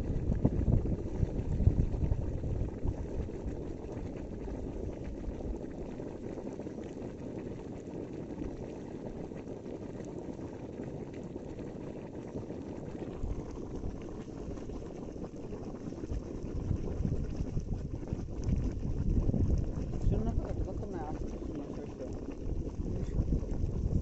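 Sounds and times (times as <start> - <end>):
powder bubbling and seething: 0.0 - 24.0.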